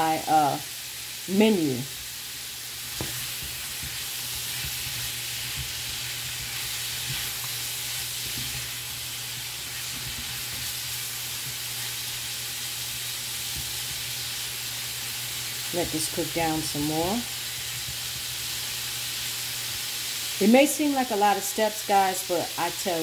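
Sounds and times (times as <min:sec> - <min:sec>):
sausage sizzling in a skillet: 0:00.0 - 0:23.0.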